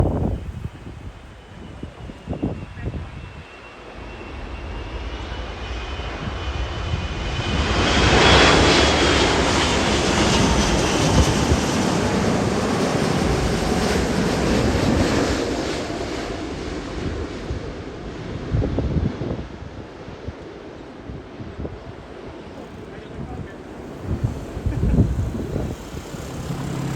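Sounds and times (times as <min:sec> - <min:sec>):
airplane passing overhead: 0:00.0 - 0:26.9.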